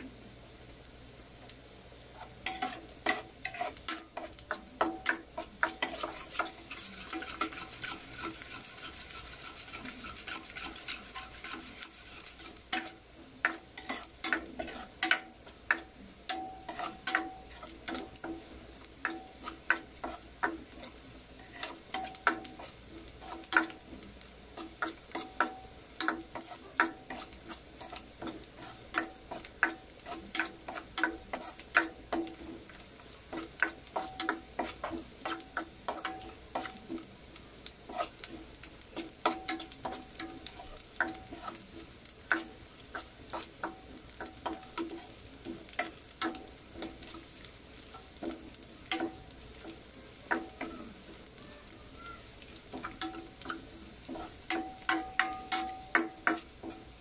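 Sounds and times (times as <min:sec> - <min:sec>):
oil sizzling: 0:00.0 - 0:57.0
metal spatula scraping a wok: 0:02.1 - 0:18.4, 0:19.0 - 0:37.1, 0:37.8 - 0:49.7, 0:52.7 - 0:57.0.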